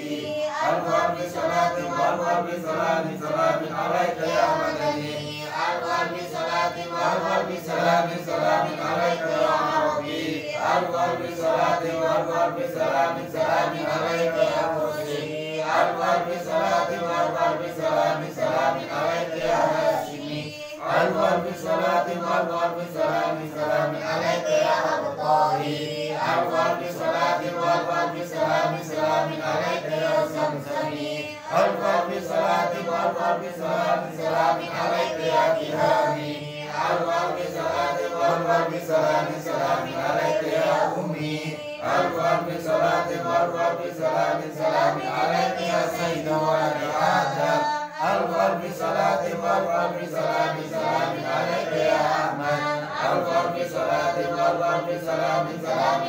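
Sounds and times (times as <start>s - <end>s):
women chanting in unison: 0.0s - 56.0s.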